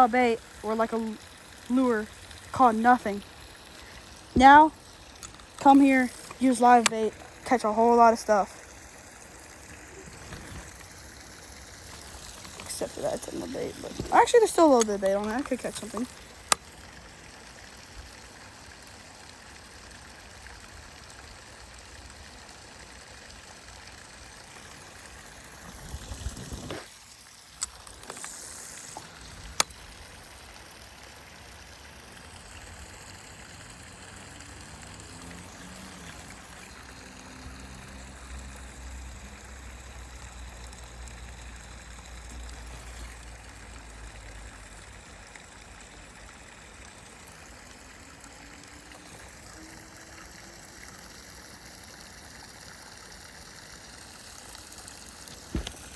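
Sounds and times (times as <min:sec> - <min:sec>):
creek water flowing: 0:00.0 - 0:55.9.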